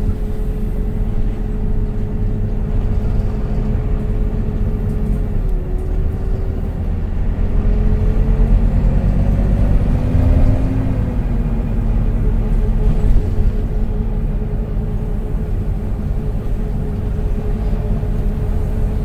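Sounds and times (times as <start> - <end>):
bus diesel engine rumbling: 0.0 - 19.0
drivetrain whine: 0.0 - 19.0.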